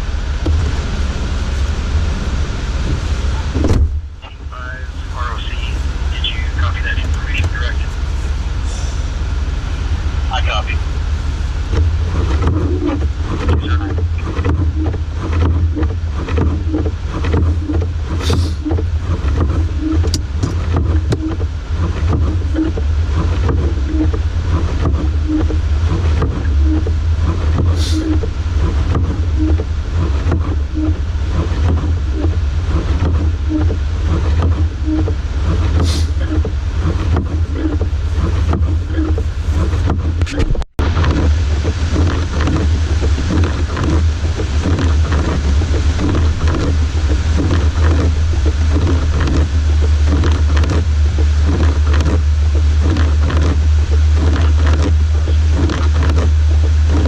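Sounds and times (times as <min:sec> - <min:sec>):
truck engine and road drone: 0:00.0 - 0:57.0.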